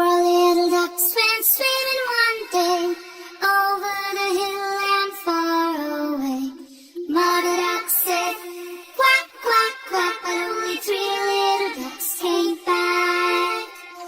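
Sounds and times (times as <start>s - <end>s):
child singing: 0.0s - 14.0s.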